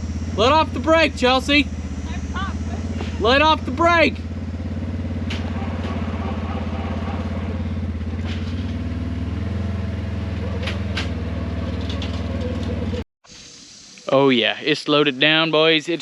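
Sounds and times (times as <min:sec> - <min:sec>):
utility vehicle engine under load: 0:00.0 - 0:13.0.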